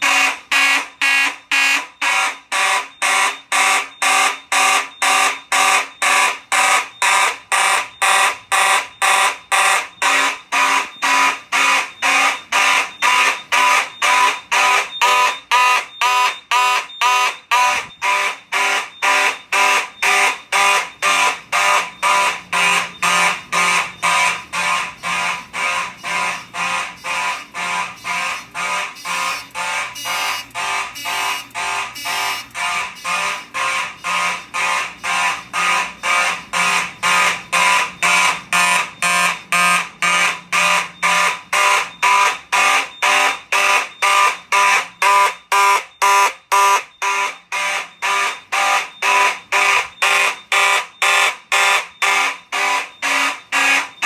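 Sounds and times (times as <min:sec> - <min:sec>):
pulsed fire alarm horns: 0:00.0 - 0:54.0.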